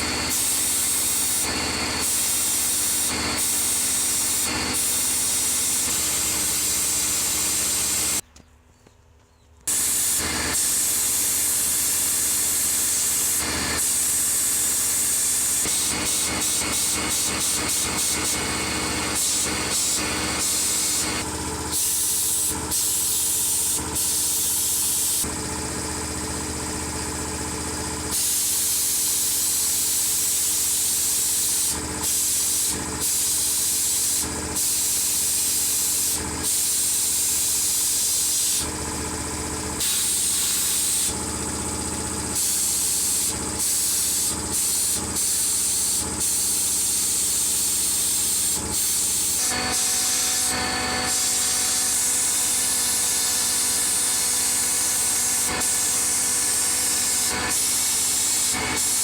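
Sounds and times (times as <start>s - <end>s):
compressed air hissing: 0.0s - 8.2s, 9.7s - 25.3s, 28.0s - 38.8s, 39.6s - 59.0s
motor humming: 0.0s - 8.2s, 9.7s - 59.0s.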